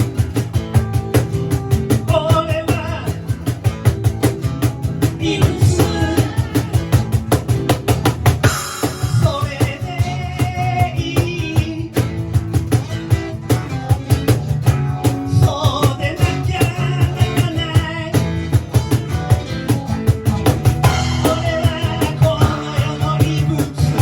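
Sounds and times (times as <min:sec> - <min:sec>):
drum kit fast beat: 0:00.0 - 0:24.0
electric guitar: 0:00.0 - 0:24.0.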